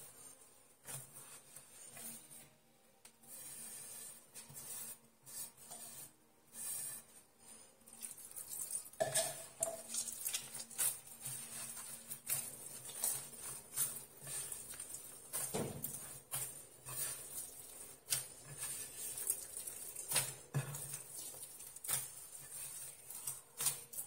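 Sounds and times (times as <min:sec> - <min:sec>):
hands kneading dough in a dish: 0:00.0 - 0:24.0.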